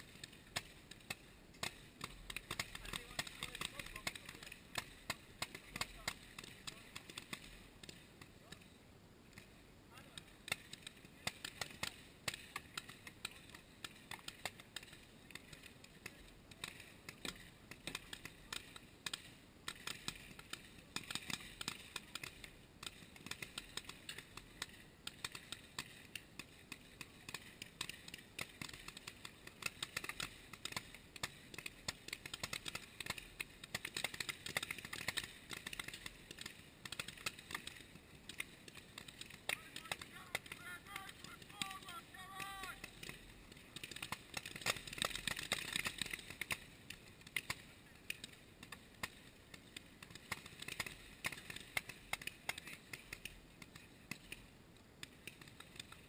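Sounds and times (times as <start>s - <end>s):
paintball guns firing pops: 0.0s - 56.0s.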